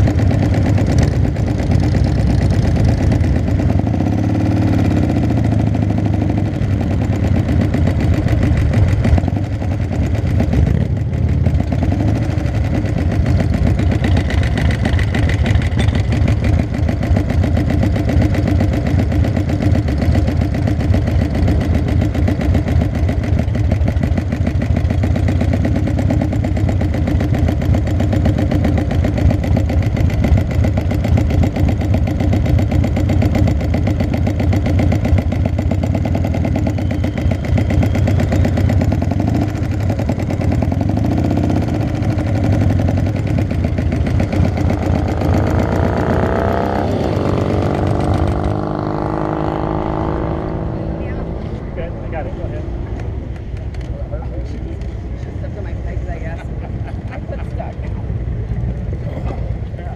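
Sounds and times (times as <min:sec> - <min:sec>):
motorcycle accelerating: 0:00.0 - 0:59.9
motorcycle engine idling: 0:00.0 - 0:59.9.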